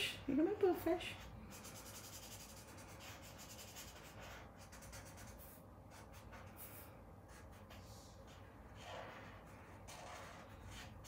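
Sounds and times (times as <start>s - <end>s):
marker scratching on paper: 1.1s - 11.0s.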